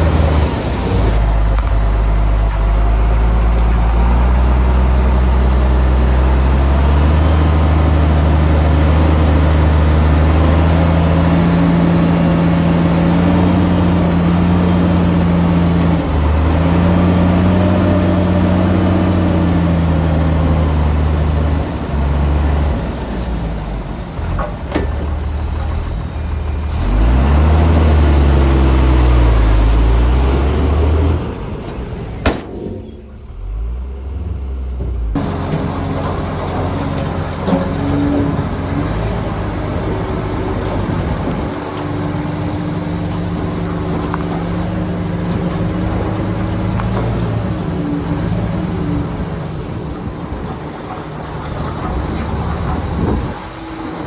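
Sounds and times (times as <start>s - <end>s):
heavy diesel engine revving: 0.0s - 54.0s.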